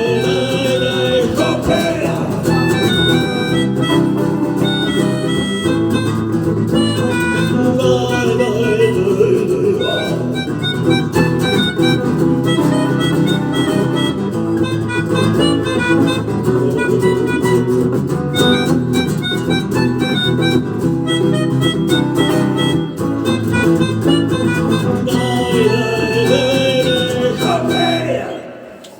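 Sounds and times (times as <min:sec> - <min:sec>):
guitar lead line: 0:00.0 - 0:28.9.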